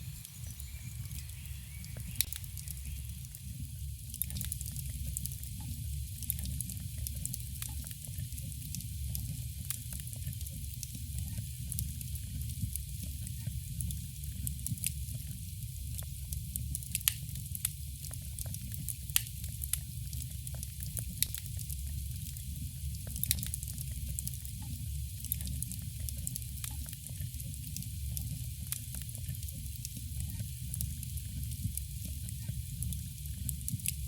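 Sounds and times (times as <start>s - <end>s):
burning wood crackling and popping: 0.0s - 34.0s
campfire flames rumbling: 0.0s - 34.0s.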